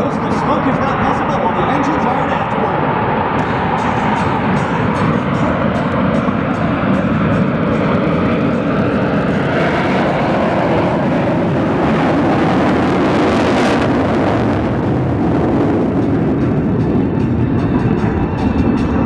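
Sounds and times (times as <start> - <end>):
jets taking off with loud roar: 0.0 - 19.0.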